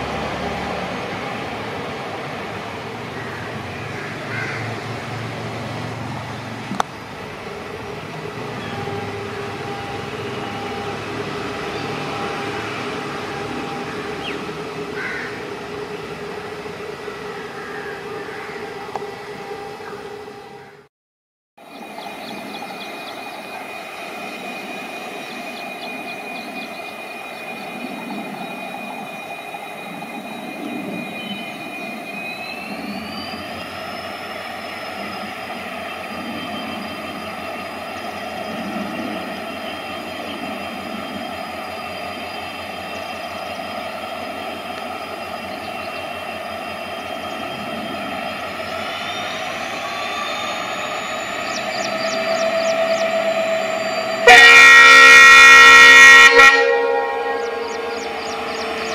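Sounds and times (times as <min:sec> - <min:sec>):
diesel locomotive engine running: 0:00.0 - 0:20.9, 0:21.6 - 0:58.9
high turbo whine: 0:00.0 - 0:20.9, 0:21.6 - 0:58.9.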